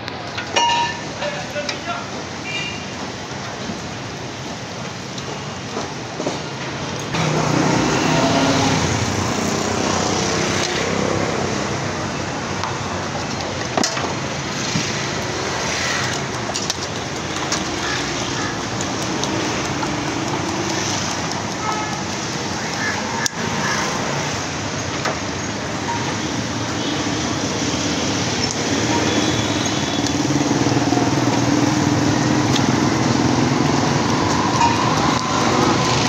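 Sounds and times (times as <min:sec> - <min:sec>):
street traffic noise: 0:00.0 - 0:36.0.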